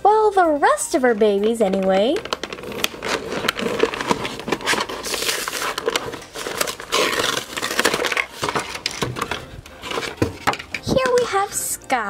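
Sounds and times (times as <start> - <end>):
plastic packaging crinkling: 1.1 - 11.1
cardboard rustling: 1.2 - 11.2.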